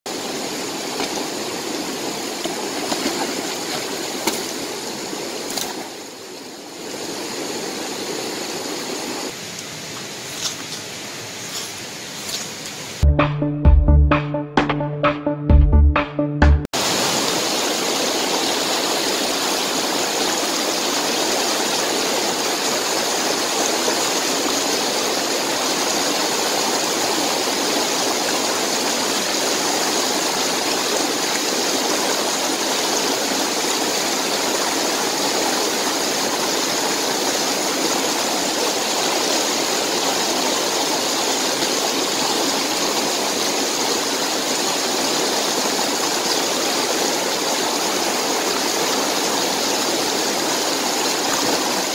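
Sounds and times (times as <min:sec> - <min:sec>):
stream rushing over rocks: 0:00.1 - 0:13.0, 0:16.8 - 0:51.9.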